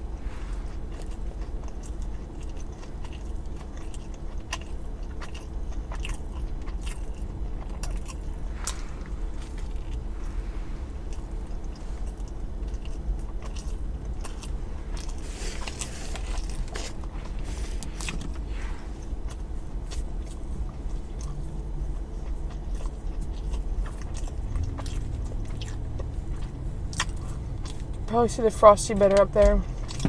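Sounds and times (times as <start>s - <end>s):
person chewing food: 0.0s - 28.1s
steady low hum: 0.0s - 30.0s.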